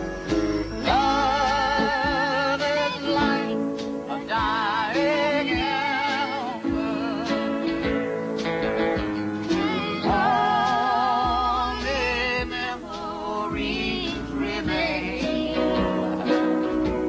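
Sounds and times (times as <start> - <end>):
person singing with vibrato: 0.0 - 8.0, 9.4 - 17.0
acoustic accompaniment: 0.0 - 17.0.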